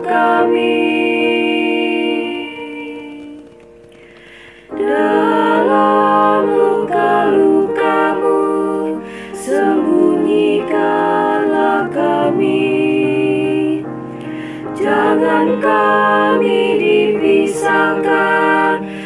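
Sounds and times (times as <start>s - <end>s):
multi-tracked hymn singing: 0.0s - 19.0s.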